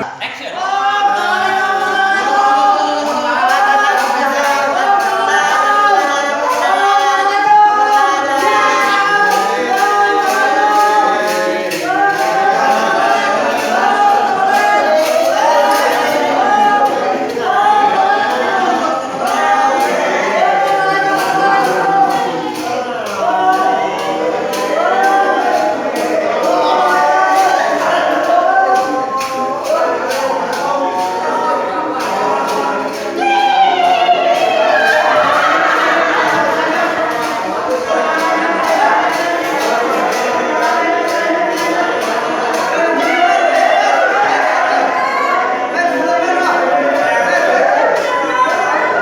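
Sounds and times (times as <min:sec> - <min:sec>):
voices singing in harmony: 0:00.0 - 0:49.0.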